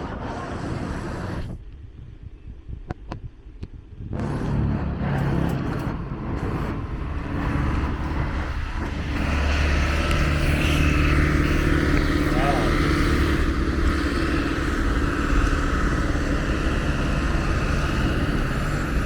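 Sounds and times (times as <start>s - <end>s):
road traffic: 0.0s - 2.2s, 2.8s - 19.0s
vehicle engine running nearby: 2.9s - 19.0s.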